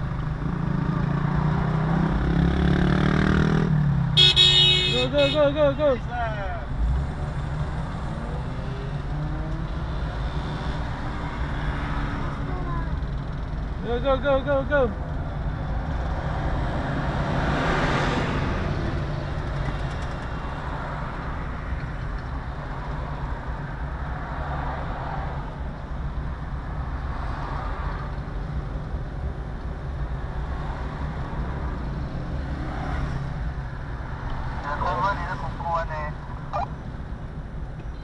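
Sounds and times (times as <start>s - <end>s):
car engine and tyre noise: 0.0s - 38.0s.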